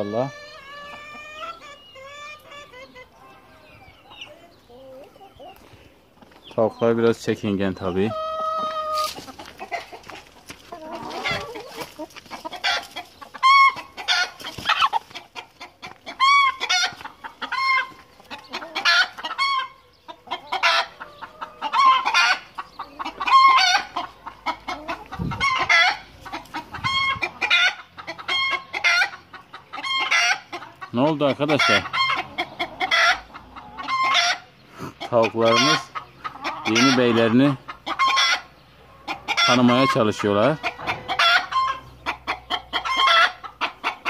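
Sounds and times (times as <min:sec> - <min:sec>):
chickens clucking and squawking: 0:00.0 - 0:44.0.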